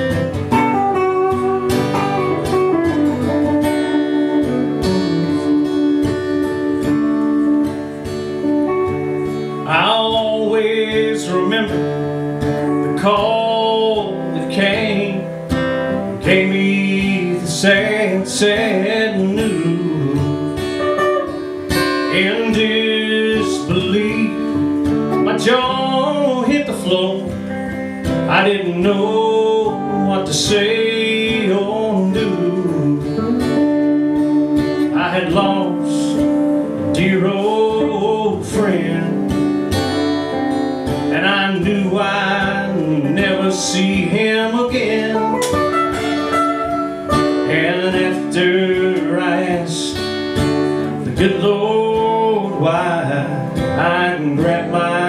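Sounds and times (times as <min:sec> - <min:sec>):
electric guitar lead: 0:00.0 - 0:55.0
strummed acoustic guitar: 0:00.0 - 0:55.0
man singing: 0:09.5 - 0:39.6, 0:41.0 - 0:55.0.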